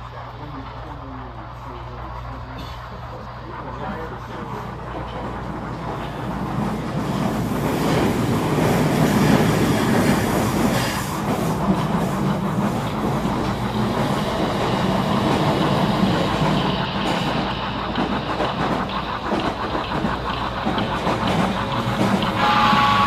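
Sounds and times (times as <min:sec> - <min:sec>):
model train rumbling on rails: 0:00.0 - 0:23.0.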